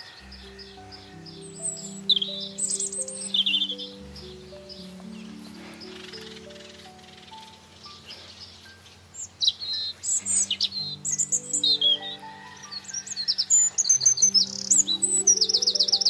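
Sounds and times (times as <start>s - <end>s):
small songbirds chirping: 0.0s - 16.0s
soft background music: 0.0s - 16.0s.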